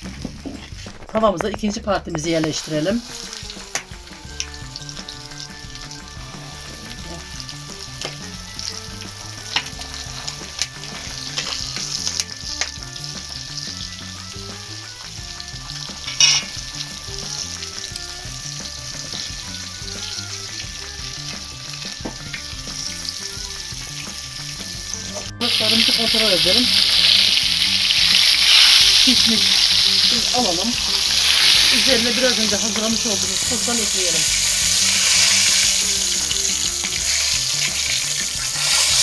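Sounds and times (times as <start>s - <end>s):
fish frying in hot oil: 2.2s - 39.0s.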